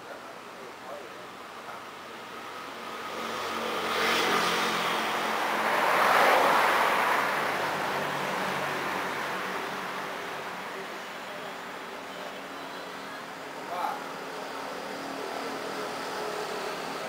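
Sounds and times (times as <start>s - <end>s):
road vehicle passing by: 0.9s - 12.6s, 13.4s - 17.0s.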